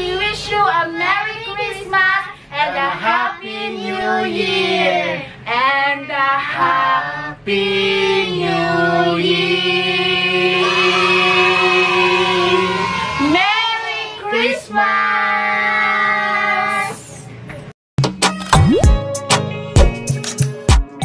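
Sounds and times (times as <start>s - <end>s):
woman and children singing a carol: 0.0s - 17.3s.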